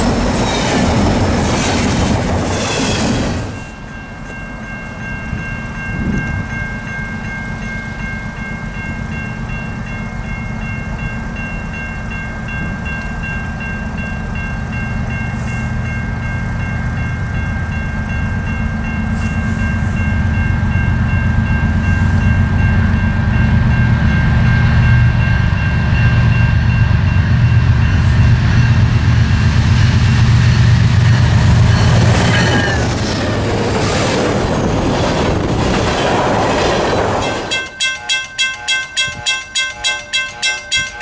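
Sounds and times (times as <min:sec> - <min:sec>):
crossing bells ringing: 0:00.0 - 0:41.0
locomotive engine rumble: 0:00.0 - 0:41.0
rail cars clattering: 0:00.0 - 0:41.0.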